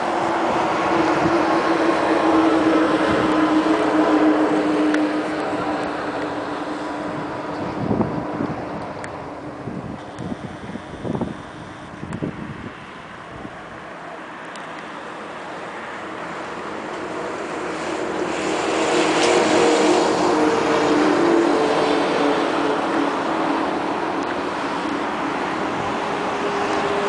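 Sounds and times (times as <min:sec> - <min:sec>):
engine humming with rushing noise: 0:00.0 - 0:27.0.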